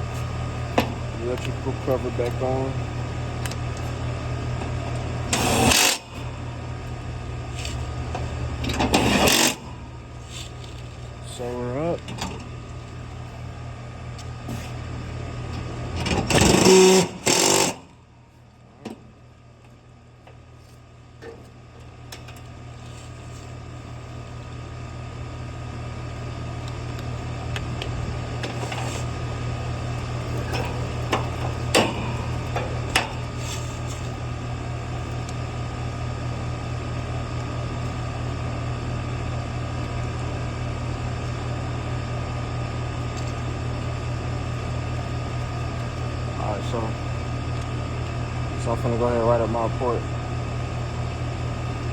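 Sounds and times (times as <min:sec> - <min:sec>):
air conditioner humming: 0:00.0 - 0:51.9.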